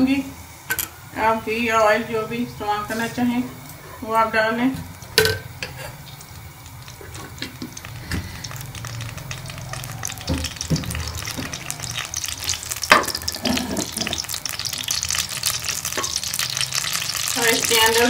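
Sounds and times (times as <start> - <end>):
fat sizzling and crackling: 1.8 - 18.0.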